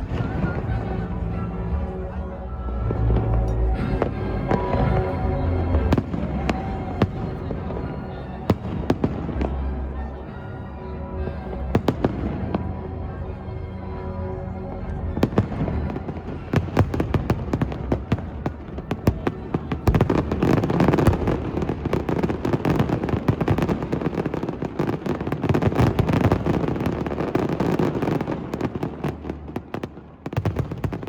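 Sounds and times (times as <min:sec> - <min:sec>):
fireworks crackling and banging: 0:00.0 - 0:01.6, 0:02.8 - 0:10.0, 0:11.6 - 0:12.9, 0:15.0 - 0:31.0
fireworks rumble: 0:00.0 - 0:31.0.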